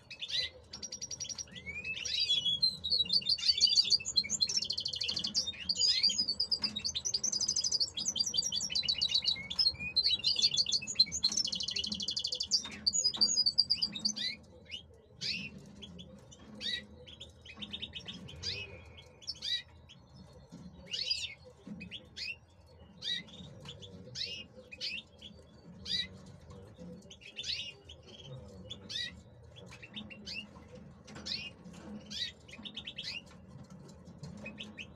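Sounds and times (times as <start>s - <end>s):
bird chirps: 0.0s - 34.9s
goldfinch song with trills: 0.0s - 34.9s.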